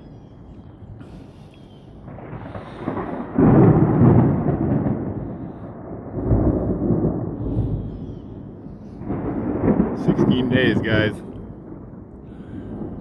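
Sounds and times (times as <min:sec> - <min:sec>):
thunder crack and rumble: 0:02.0 - 0:13.0.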